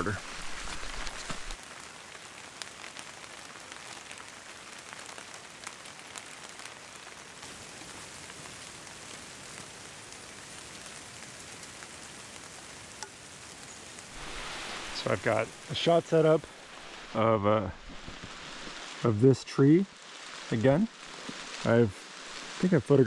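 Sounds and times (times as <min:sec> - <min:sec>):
rain falling through forest: 0:00.0 - 0:23.0
raindrops ticking close by: 0:00.0 - 0:23.0.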